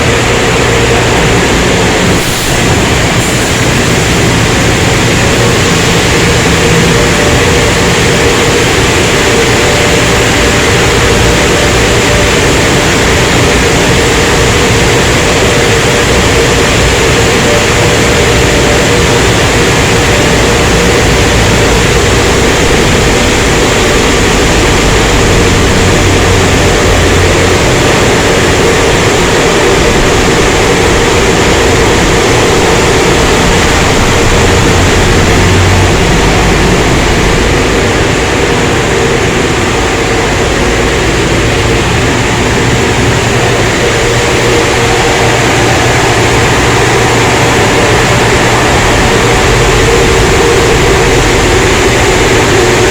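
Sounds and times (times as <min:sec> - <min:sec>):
car wash equipment rushing: 0:00.0 - 0:52.9
constant machine hum: 0:00.0 - 0:52.9.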